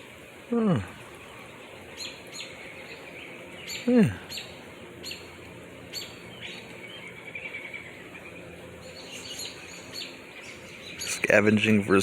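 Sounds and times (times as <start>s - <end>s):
faint bird chirps: 0.0s - 11.8s
outdoor background noise: 0.0s - 12.0s.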